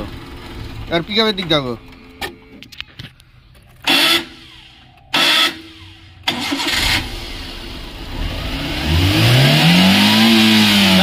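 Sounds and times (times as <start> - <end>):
car engine cranking and running: 0.0 - 11.0.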